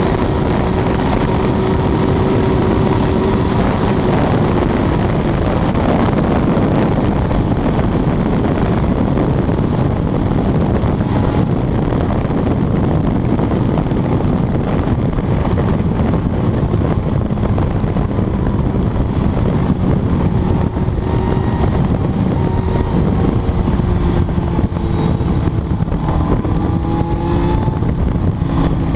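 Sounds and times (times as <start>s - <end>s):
motorcycle engine running: 0.0s - 28.9s
wind rush on microphone: 0.0s - 28.9s.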